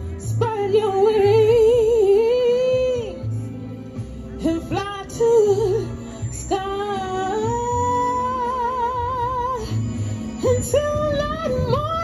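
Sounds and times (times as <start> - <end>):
woman singing into a microphone: 0.0 - 3.5, 4.4 - 12.0.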